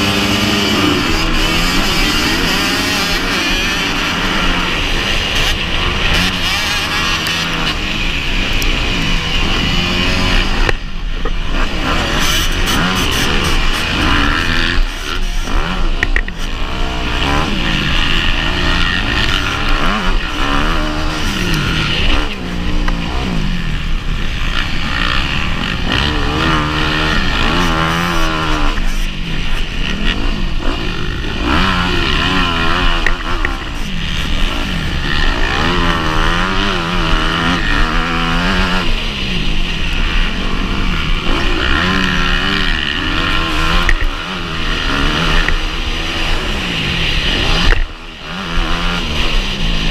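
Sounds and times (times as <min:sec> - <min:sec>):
motorcycle engine racing: 0:00.0 - 0:49.9.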